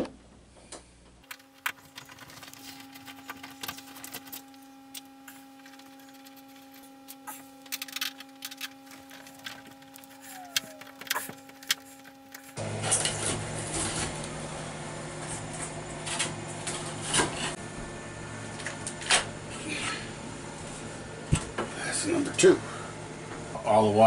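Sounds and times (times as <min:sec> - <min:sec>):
steady hum: 0:00.1 - 0:24.0.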